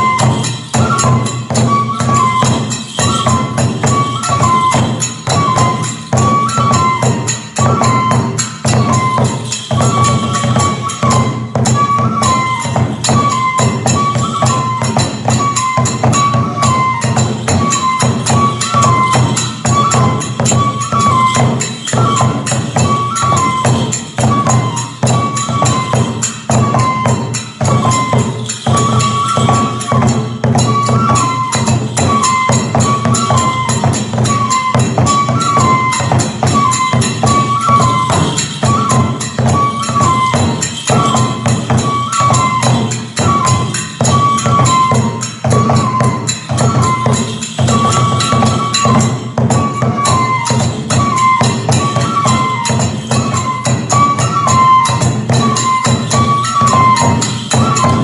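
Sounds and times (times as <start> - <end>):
bamboo flute melody: 0.0 - 58.0
jangling hand cymbals: 0.0 - 58.0
taiko drum strokes: 0.0 - 58.0.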